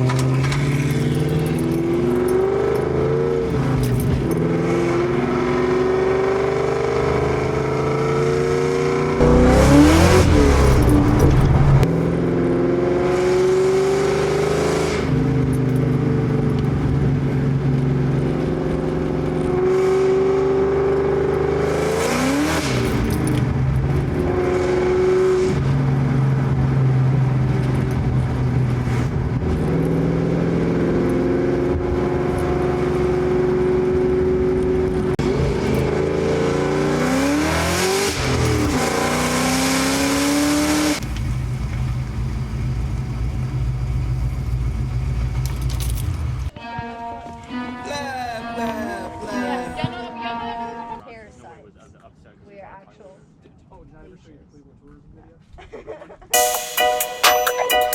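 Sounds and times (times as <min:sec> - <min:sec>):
car engine accelerating through gears: 0:00.0 - 0:46.6.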